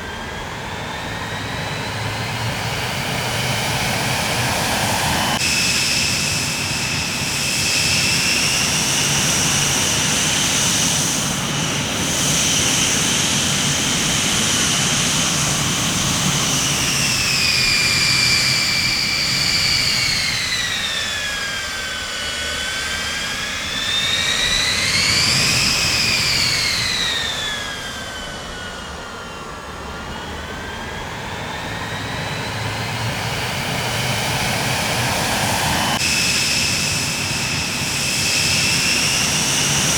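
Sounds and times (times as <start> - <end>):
engine rumble: 0.0 - 39.9
jet engines whining: 0.0 - 39.9.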